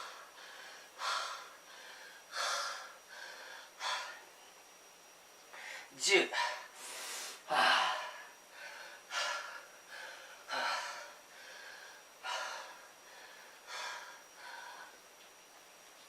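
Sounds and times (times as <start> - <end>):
man breathing hard: 0.0 - 4.3, 5.5 - 15.0.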